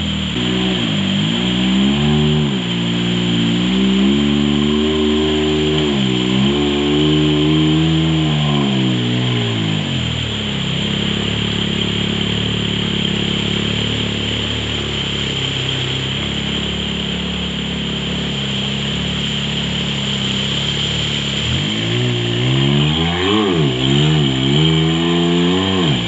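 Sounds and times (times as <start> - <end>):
loud waterfall rushing: 0.0 - 26.0
utility vehicle engine: 0.0 - 26.0.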